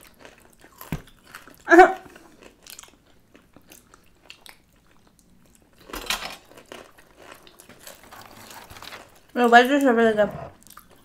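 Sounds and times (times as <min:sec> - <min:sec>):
chewing crunchy snack: 0:00.0 - 0:11.0.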